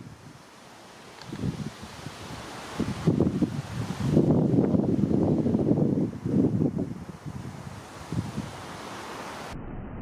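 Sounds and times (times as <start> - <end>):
wind buffeting microphone: 0.0 - 0.5, 1.2 - 9.6.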